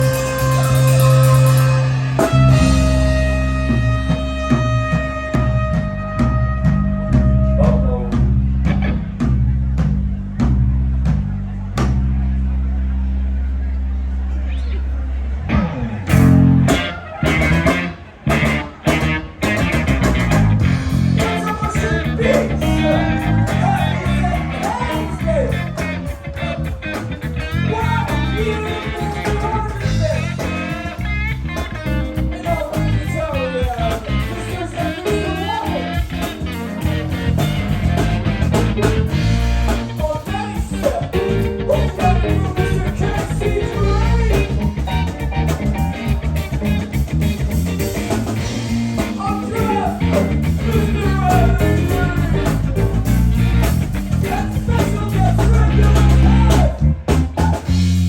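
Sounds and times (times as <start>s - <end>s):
live bluesy rock band: 0.0s - 13.4s, 15.4s - 58.0s.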